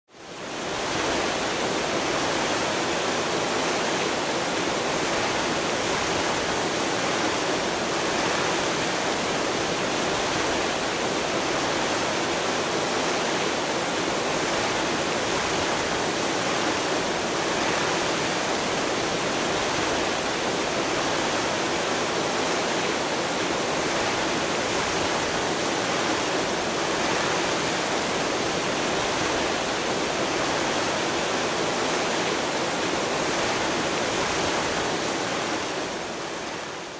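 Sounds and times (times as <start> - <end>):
fountain water splashing: 0.3 - 36.9.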